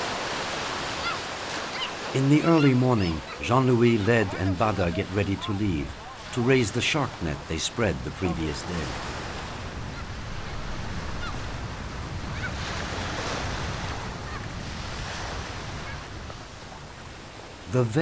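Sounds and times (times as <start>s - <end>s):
sea surf: 0.0s - 18.0s
wind: 0.0s - 18.0s.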